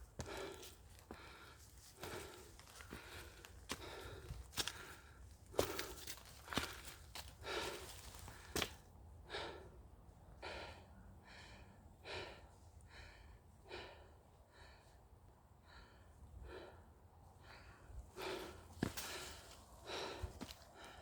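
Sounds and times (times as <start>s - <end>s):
person breathing hard: 0.2s - 9.8s, 10.4s - 21.0s.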